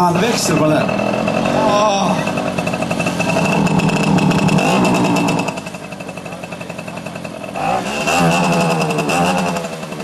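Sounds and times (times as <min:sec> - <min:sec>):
moped engine revving: 0:00.0 - 0:10.0.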